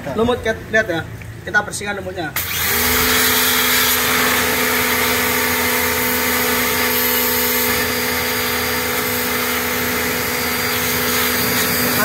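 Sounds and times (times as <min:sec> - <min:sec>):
pressure washer motor humming: 0:02.4 - 0:12.0
water jet hissing: 0:02.4 - 0:12.0.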